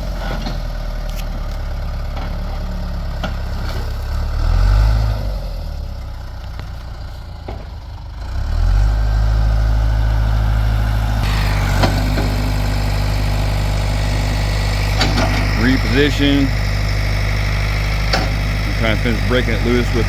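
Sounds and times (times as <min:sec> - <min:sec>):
backhoe engine running: 0:00.0 - 0:20.0.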